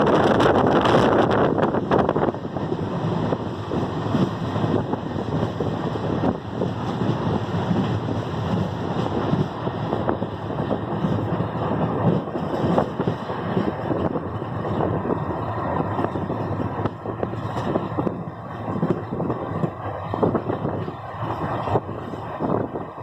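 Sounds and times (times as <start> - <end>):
train rumble: 0.0 - 23.0
wind buffeting microphone: 0.0 - 23.0.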